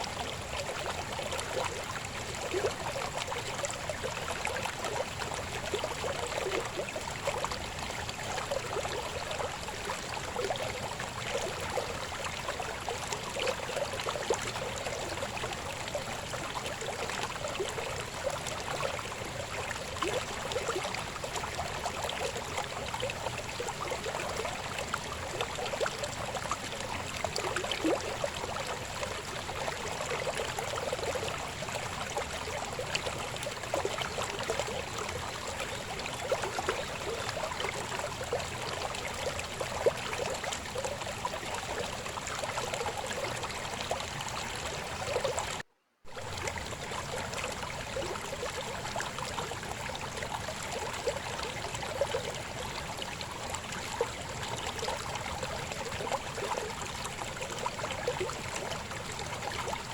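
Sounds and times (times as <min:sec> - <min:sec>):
river water flowing and babbling: 0:00.0 - 0:59.9.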